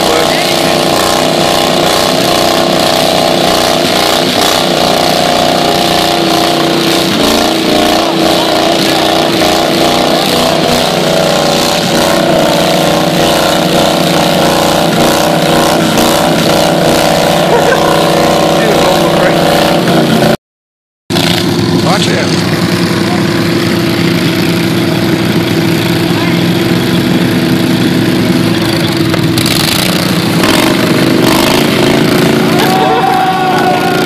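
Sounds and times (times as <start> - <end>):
tractor engines droning: 0.0 - 20.4, 21.1 - 34.0.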